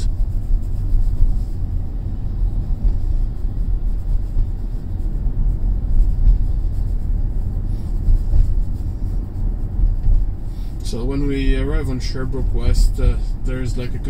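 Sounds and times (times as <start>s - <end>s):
road and tyre rumble: 0.0s - 14.0s.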